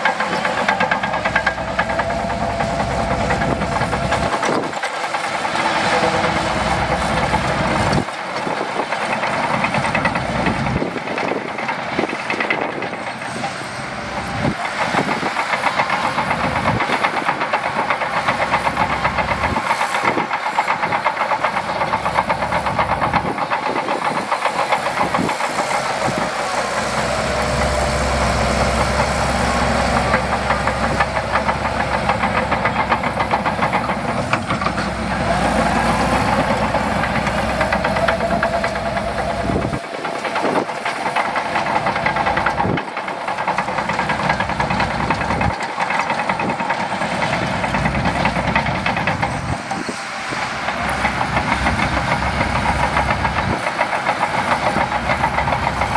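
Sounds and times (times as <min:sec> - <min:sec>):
bulldozer diesel engine clattering: 0:00.0 - 0:55.9.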